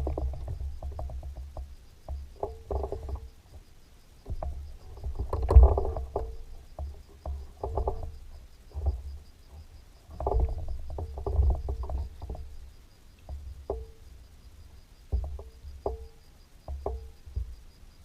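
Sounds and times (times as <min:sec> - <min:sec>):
hollow knocks on a boat: 0:00.0 - 0:12.7, 0:13.3 - 0:14.1, 0:15.1 - 0:17.7.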